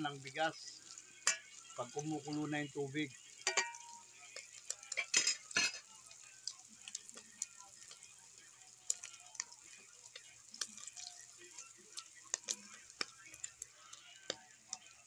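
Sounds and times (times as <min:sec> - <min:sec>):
meat sizzling in fat: 0:00.0 - 0:15.0.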